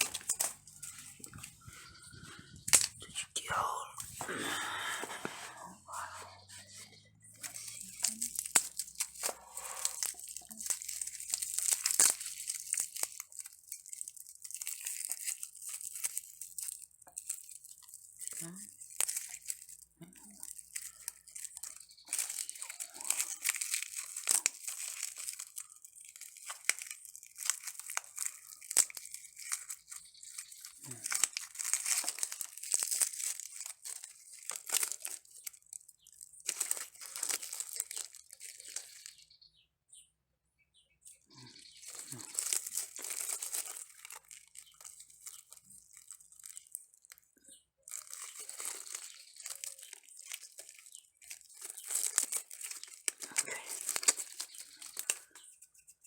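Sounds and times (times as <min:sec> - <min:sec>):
dry petals tearing and crinkling: 0:00.0 - 0:39.4, 0:41.1 - 0:56.0.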